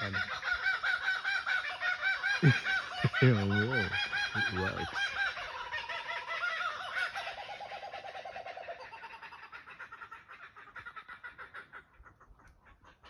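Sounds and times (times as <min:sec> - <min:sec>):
kookaburras cackling: 0:00.0 - 0:13.0.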